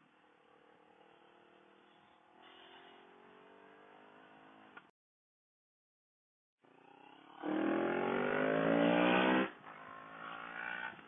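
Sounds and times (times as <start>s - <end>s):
motorcycle engine accelerating: 0.2s - 4.8s, 6.7s - 11.0s.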